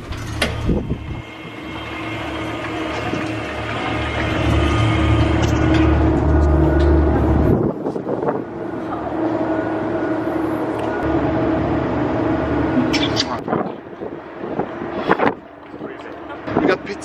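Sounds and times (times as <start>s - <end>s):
machinery drone and deep rumble: 0.0s - 17.0s.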